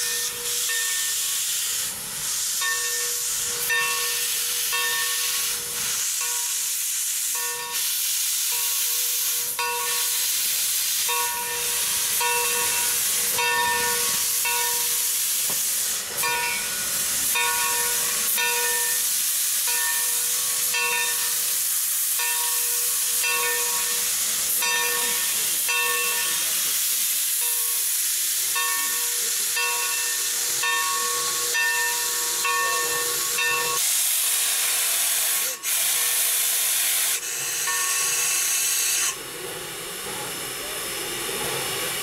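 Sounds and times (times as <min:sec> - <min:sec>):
steam locomotive hissing: 0:00.0 - 0:42.0.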